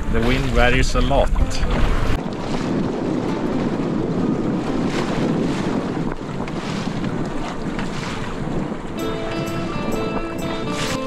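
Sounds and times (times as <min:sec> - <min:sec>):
water splashing along canoe bow: 0:00.0 - 0:11.0
wind buffeting microphone: 0:00.0 - 0:11.0.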